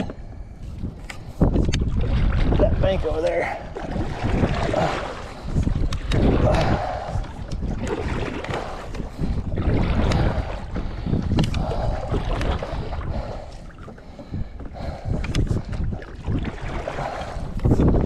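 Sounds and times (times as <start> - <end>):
wind buffeting microphone: 0.0 - 18.0
paddle strokes splashing water: 1.3 - 18.0.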